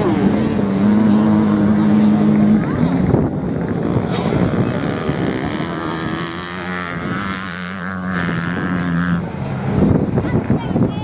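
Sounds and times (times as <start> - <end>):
racing motorcycle engines: 0.0 - 10.9
high engine whine: 0.0 - 11.0.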